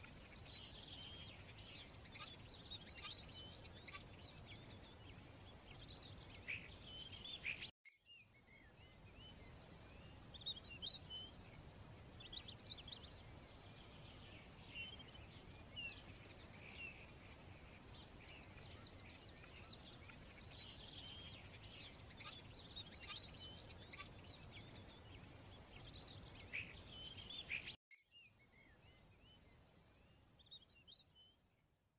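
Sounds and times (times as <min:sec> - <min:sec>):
birds chirping: 0:00.0 - 0:31.4
low steady hiss: 0:00.0 - 0:31.9.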